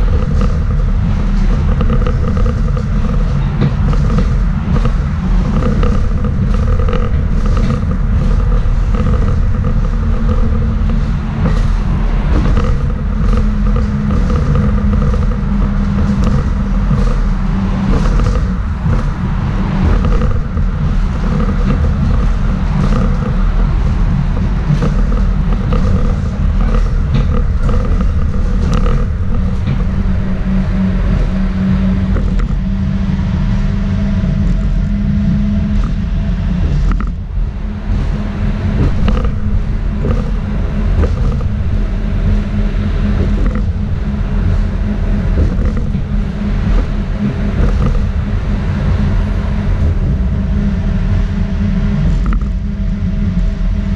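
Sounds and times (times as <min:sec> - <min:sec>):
running gear hum: 0:00.0 - 0:53.9
tram wheels rumbling on rails: 0:00.0 - 0:53.9.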